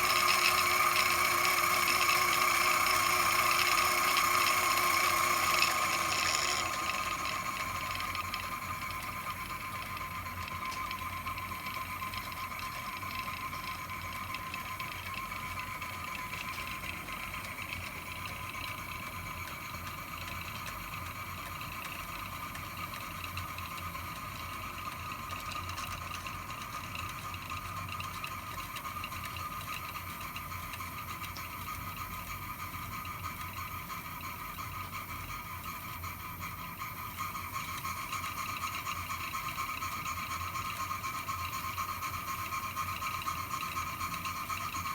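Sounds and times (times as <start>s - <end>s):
toy steam engine whirring: 0.0s - 20.3s, 28.7s - 44.9s.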